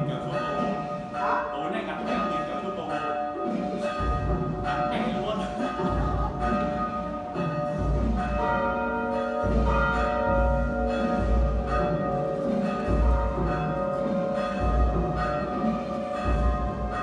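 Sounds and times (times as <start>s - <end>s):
church bells tolling: 0.0s - 17.0s.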